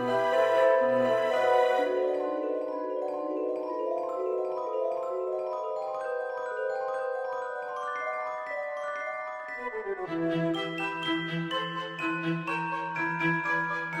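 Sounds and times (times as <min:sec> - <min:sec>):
mallet percussion melody: 0:00.0 - 0:14.0.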